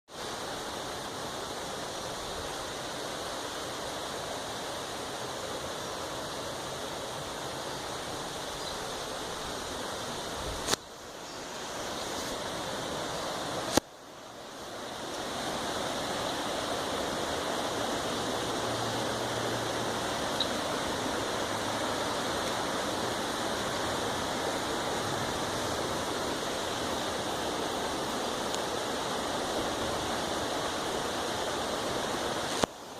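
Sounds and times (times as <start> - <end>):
river water rushing: 0.1 - 32.9.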